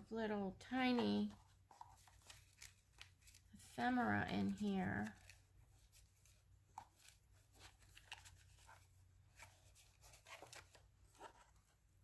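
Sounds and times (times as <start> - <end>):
paper rustling: 0.8 - 12.0.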